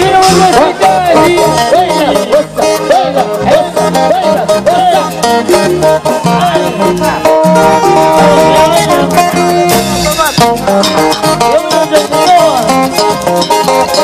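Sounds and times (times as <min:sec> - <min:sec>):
live band playing dance music: 0:00.0 - 0:14.0.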